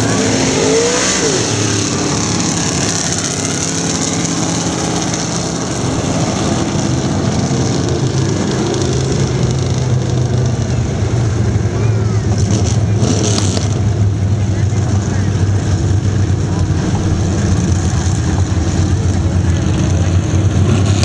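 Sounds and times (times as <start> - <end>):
car engines droning at low speed: 0.0 - 21.0.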